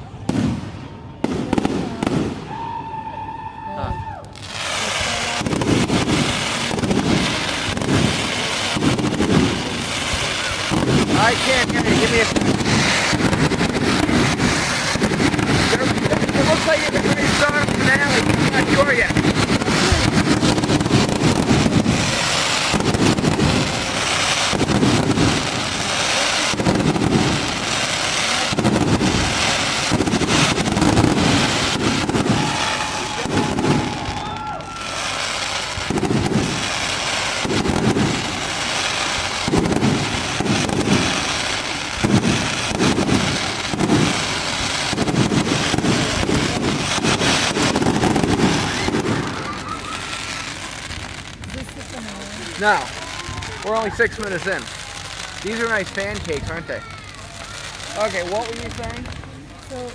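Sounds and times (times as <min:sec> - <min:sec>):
firework shells booming: 0:00.0 - 0:02.8, 0:04.3 - 0:59.5
fireworks crackling: 0:00.0 - 0:59.9.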